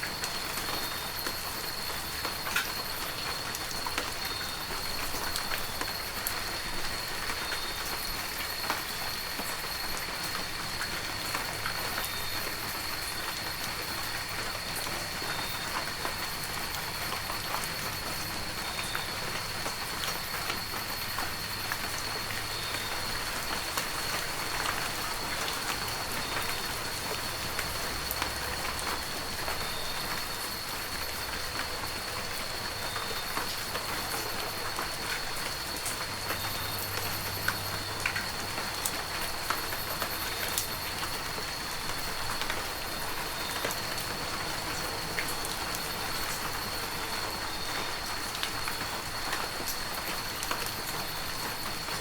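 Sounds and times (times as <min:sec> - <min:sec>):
heavy rain with pattering drops: 0:00.0 - 0:52.0.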